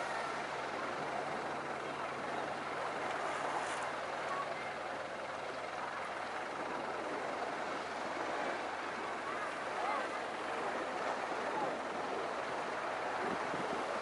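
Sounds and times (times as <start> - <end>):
distant voices: 0.0 - 14.0
low engine hum: 0.0 - 14.0
shore ambience wash: 0.0 - 14.0.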